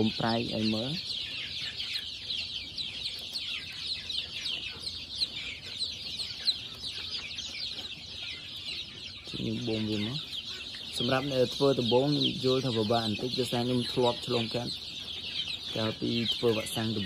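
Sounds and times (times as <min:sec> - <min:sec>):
baby chicks peeping: 0:00.0 - 0:17.0.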